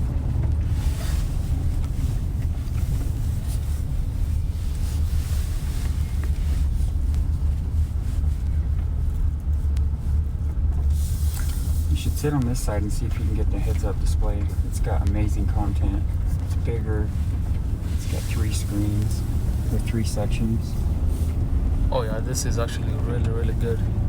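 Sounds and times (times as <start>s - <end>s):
road and engine rumble in cabin: 0.0s - 24.0s.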